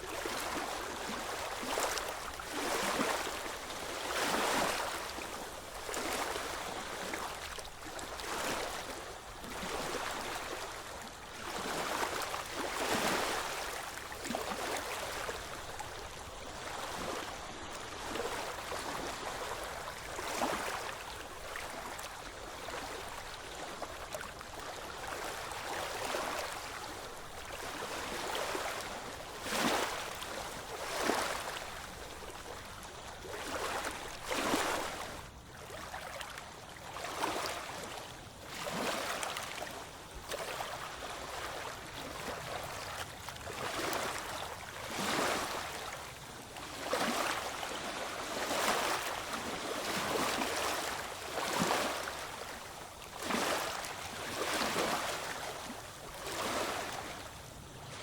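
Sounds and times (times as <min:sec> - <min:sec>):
small ocean waves washing in: 0:00.0 - 0:58.0.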